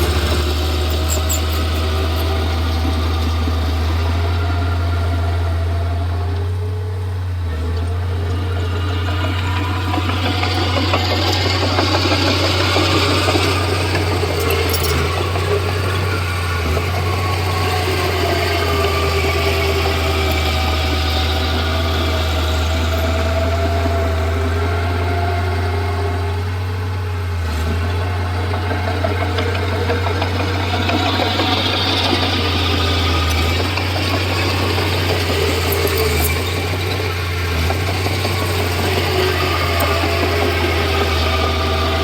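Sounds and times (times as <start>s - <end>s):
bulldozer engine droning: 0.0s - 42.0s.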